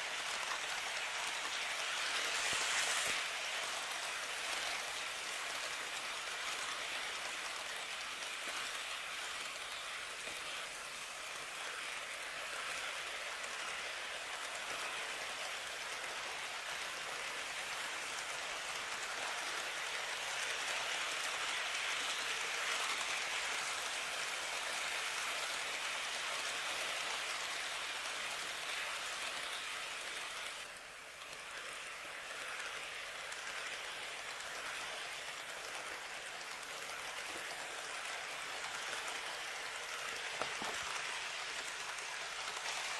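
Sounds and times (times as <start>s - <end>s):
model trains rattling on track: 0.0s - 42.9s.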